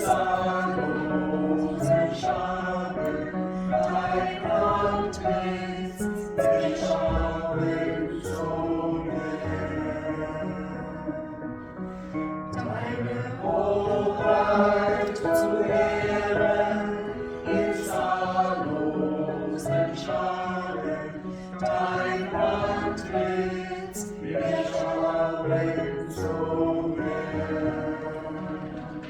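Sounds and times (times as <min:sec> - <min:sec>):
choir singing in harmony: 0:00.0 - 0:29.0.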